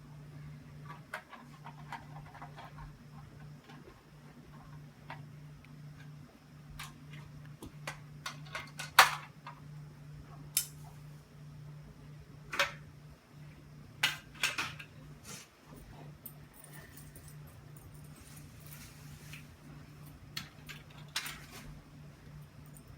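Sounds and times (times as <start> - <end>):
faint low hum: 0.0 - 22.9.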